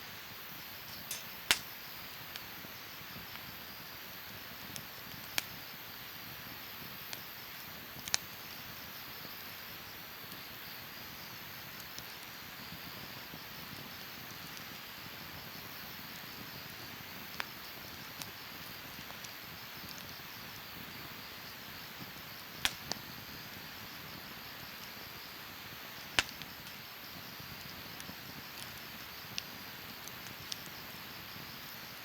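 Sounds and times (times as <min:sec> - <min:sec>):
fire hissing: 0:00.1 - 0:32.0
campfire crackling pops: 0:00.4 - 0:03.5, 0:04.6 - 0:08.6, 0:11.6 - 0:31.9.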